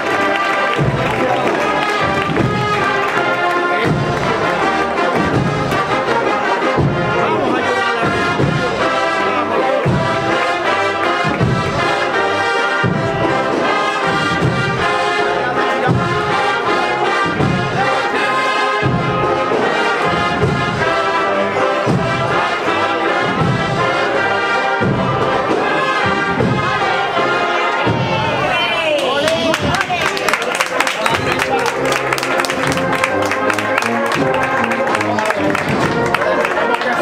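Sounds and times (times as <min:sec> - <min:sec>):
brass band playing a march: 0:00.0 - 0:37.0
steady drum beat: 0:00.0 - 0:37.0.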